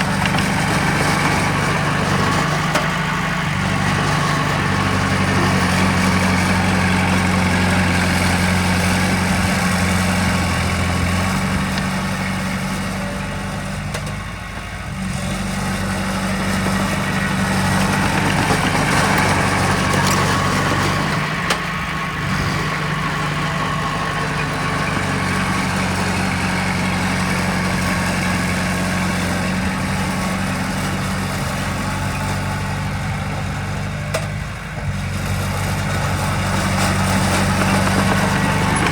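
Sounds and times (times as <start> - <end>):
heavy machinery diesel engine running: 0.0 - 38.9.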